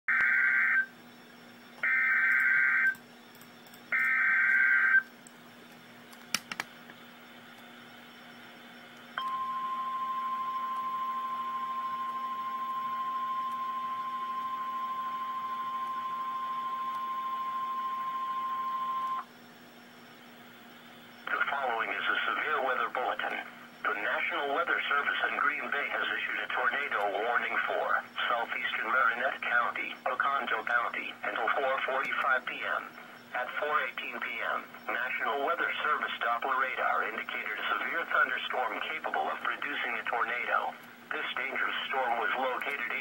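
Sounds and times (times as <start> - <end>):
buzzing data tones: 0.1 - 5.9, 6.8 - 43.0
steady warning alarm tone: 0.1 - 6.0, 6.8 - 43.0.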